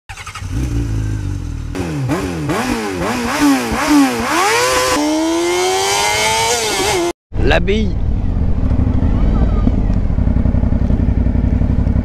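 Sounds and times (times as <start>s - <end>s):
motorcycle engine revving: 0.1s - 7.2s, 7.9s - 12.0s.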